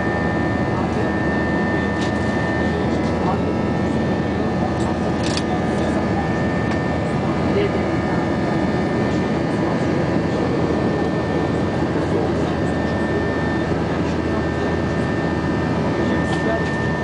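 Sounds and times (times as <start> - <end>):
jet engine and airflow rush: 0.0 - 17.0
thin steady whine: 0.0 - 17.0.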